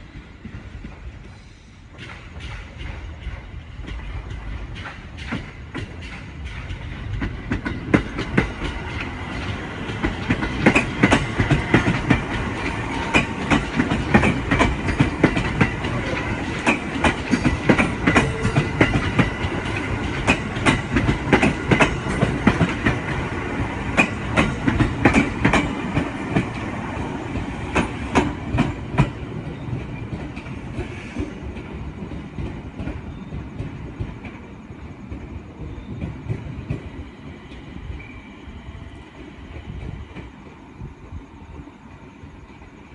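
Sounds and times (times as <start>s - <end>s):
train wheels clattering over rail joints: 0.0s - 37.7s
train rumble: 0.0s - 42.9s.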